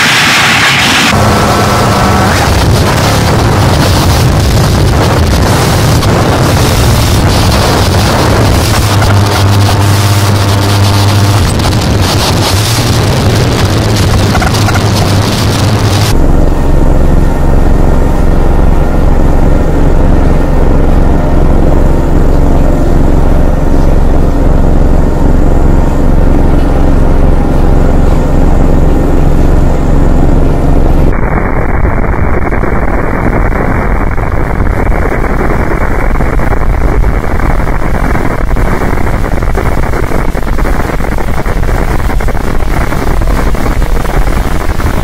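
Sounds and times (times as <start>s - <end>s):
harsh distorted noise music: 0.0s - 45.0s
steady low hum: 0.0s - 45.0s.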